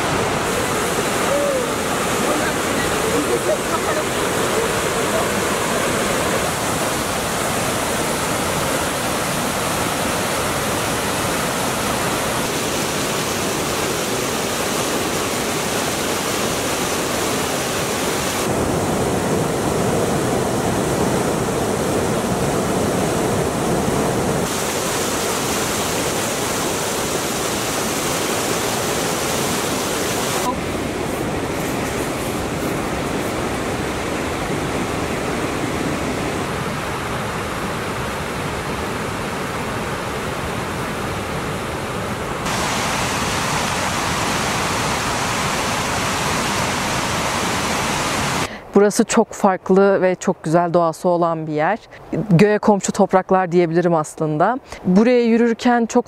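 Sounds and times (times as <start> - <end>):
stream rushing over rocks: 0.0 - 48.6.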